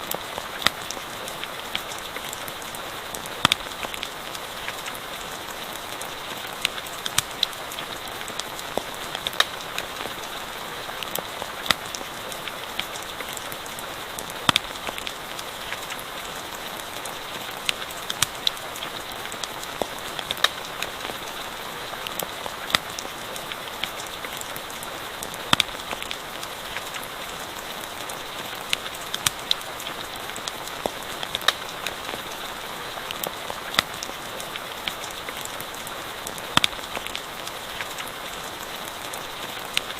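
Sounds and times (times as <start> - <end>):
campfire crackling and popping: 0.0 - 39.9
steady rain falling: 0.0 - 39.9.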